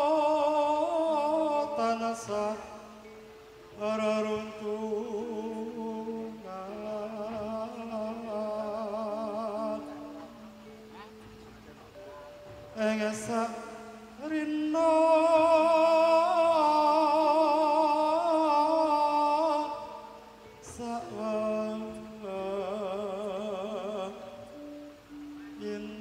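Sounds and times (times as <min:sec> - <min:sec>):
man singing with vibrato: 0:00.0 - 0:26.0.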